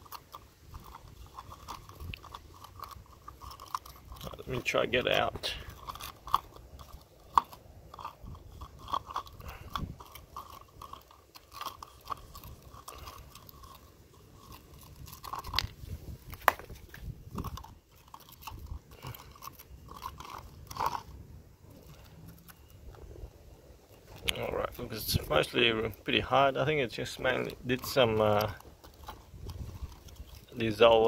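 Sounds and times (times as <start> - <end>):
wooden fork scraping concrete: 0.0 - 22.7, 24.1 - 31.0.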